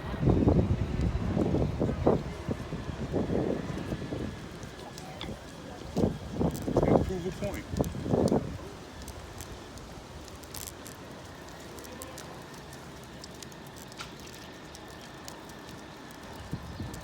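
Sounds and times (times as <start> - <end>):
wind and bicycle riding noise: 0.0 - 17.0
light ticks and crackles: 0.5 - 17.0.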